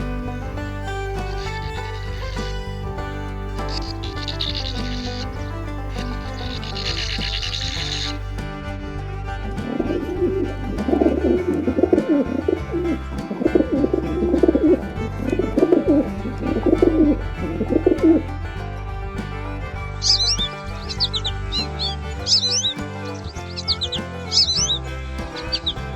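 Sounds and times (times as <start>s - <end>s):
background music: 0.0s - 25.9s.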